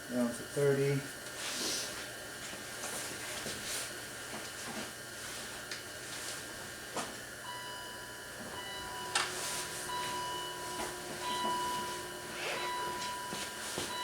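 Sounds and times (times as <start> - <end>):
faint electric whine: 0.0 - 14.0.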